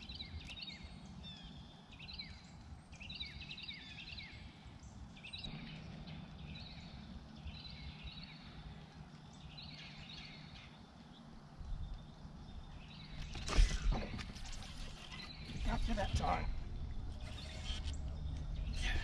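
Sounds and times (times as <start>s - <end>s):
low steady background rumble: 0.0s - 19.0s
small birds chirping: 0.0s - 19.0s.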